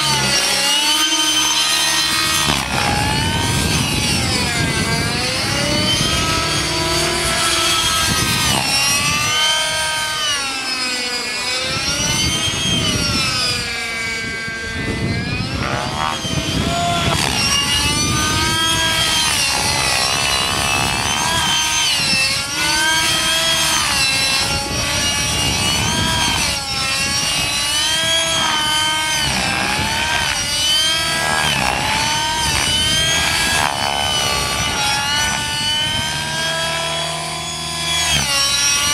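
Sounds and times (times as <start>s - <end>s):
model helicopter engine and rotor: 0.0s - 38.9s.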